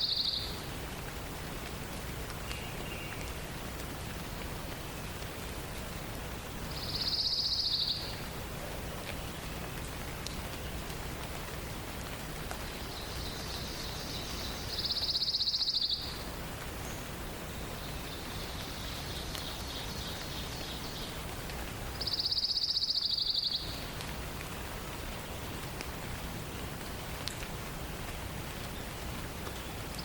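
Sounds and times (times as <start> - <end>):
forest ambience hiss: 0.0 - 30.0.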